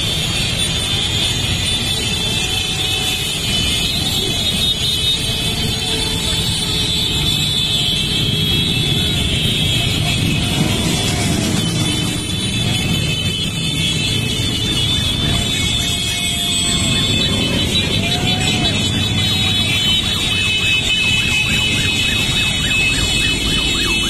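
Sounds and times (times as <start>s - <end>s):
many motorcycles riding past: 0.0s - 24.0s.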